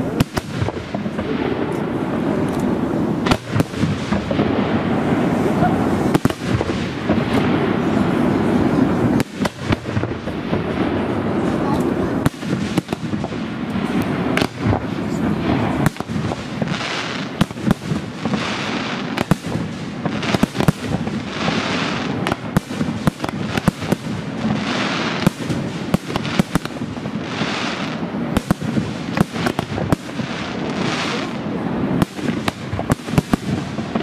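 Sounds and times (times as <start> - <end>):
crackling hiss of fireworks: 0.0 - 34.0.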